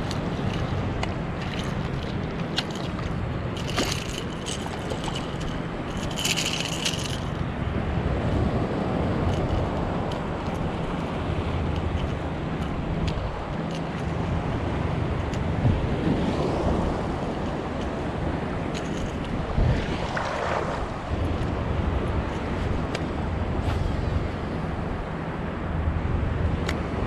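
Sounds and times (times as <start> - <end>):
ocean surf: 0.0 - 27.0
wind buffeting microphone: 0.0 - 27.0.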